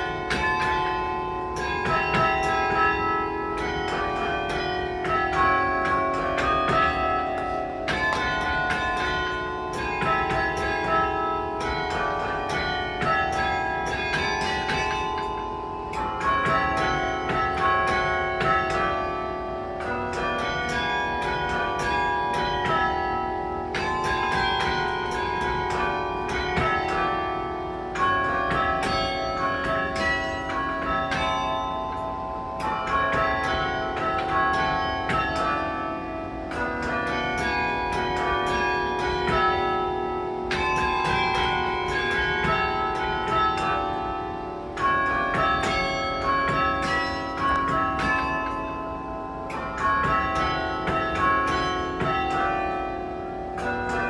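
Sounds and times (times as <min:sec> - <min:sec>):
carillon bells playing melody: 0:00.0 - 0:54.0.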